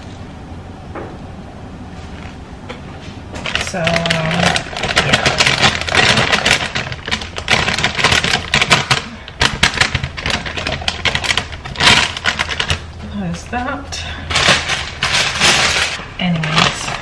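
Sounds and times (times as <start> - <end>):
plastic bag crinkling: 3.3 - 17.0.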